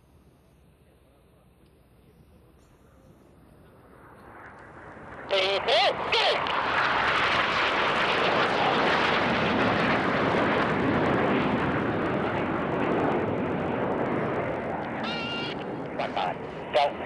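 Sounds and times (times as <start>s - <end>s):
jet engines flying low pass: 2.9s - 17.0s.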